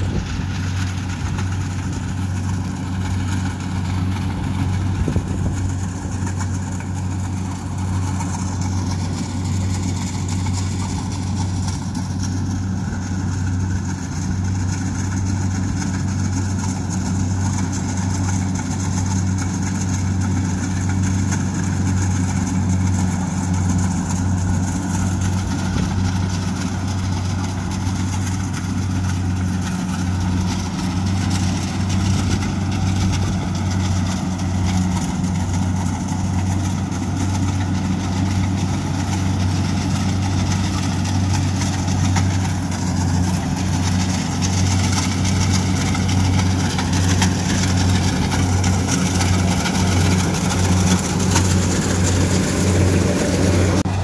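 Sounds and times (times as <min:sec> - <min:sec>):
diesel engine drone: 0:00.0 - 0:54.0
threshing clatter: 0:00.0 - 0:54.0.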